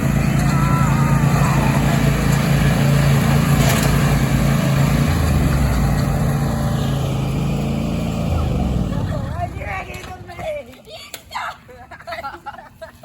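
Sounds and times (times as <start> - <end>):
riding lawn mower engine: 0.0 - 10.8.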